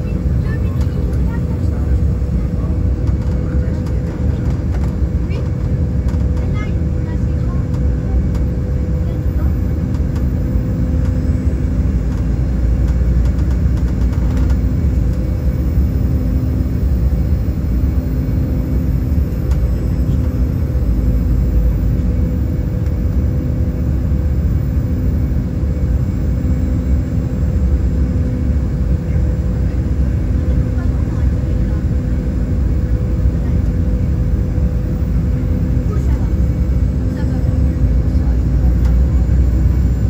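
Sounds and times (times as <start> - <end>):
jet cabin rumble of airflow and engines: 0.0 - 40.0.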